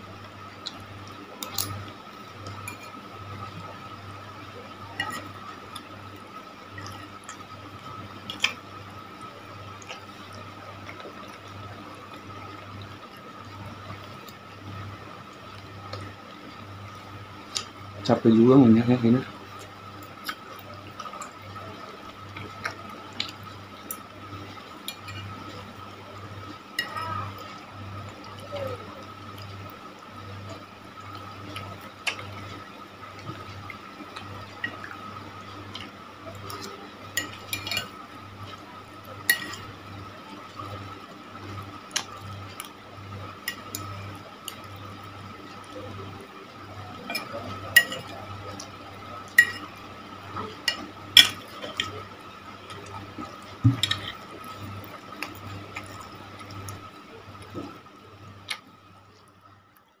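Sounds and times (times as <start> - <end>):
steady hum: 0.0 - 60.0.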